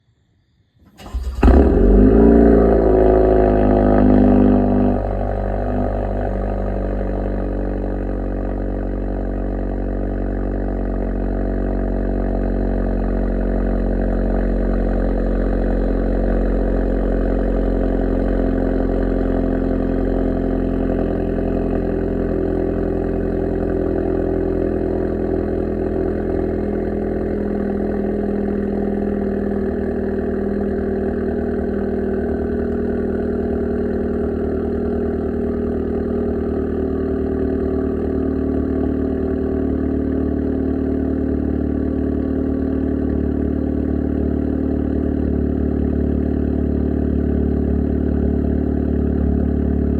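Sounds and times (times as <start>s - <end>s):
car engine idling: 1.0s - 49.9s.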